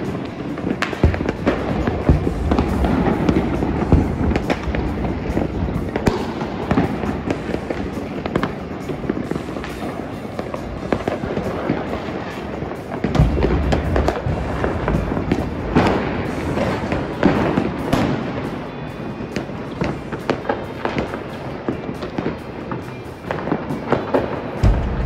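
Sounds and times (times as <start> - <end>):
fireworks booms: 0.0 - 25.0
fireworks crackling and popping: 0.0 - 25.0.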